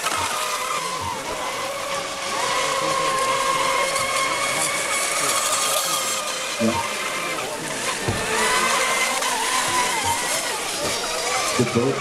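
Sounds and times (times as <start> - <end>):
model boat motors whining: 0.0 - 12.0.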